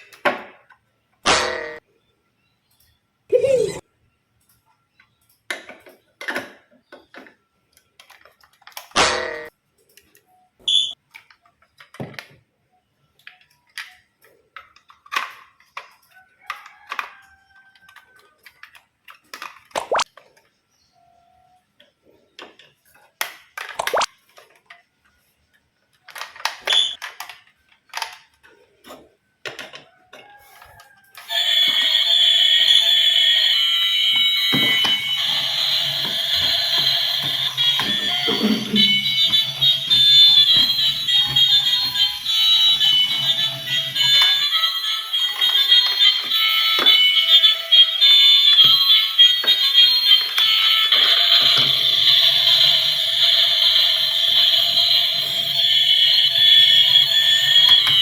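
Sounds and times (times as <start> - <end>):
toys clicking and clacking: 4.4 - 12.4, 13.1 - 20.6, 21.8 - 58.0.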